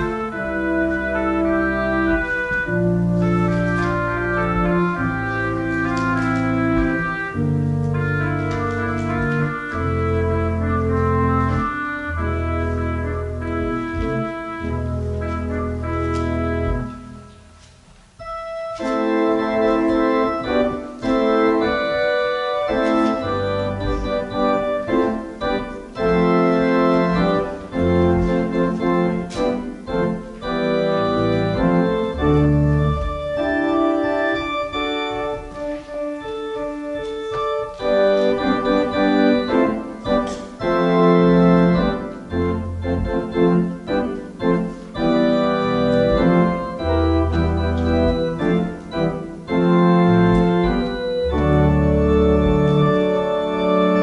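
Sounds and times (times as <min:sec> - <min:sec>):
church organ playing chords: 0:00.0 - 0:54.0.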